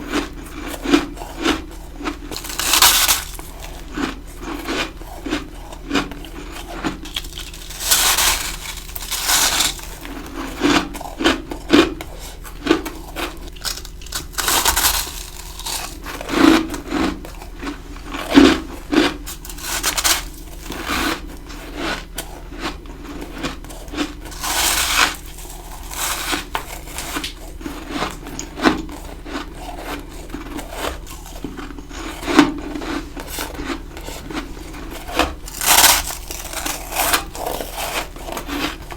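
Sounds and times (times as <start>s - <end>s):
person crunching ice: 0.1s - 38.9s.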